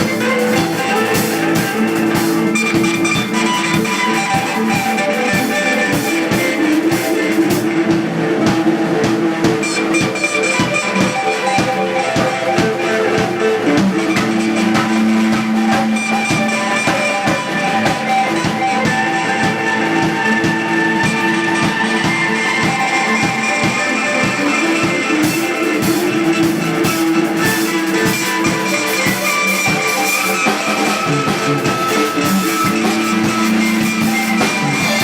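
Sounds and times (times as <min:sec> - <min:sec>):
drum kit steady beat: 0:00.0 - 0:35.0
guitar: 0:00.0 - 0:35.0.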